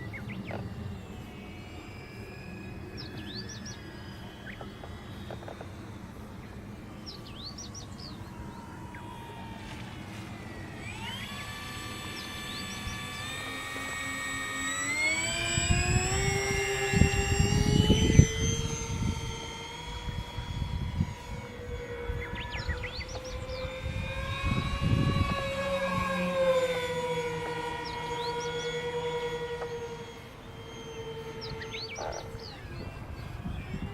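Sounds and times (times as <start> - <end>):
electric motors and propellers whining: 0.0 - 33.9.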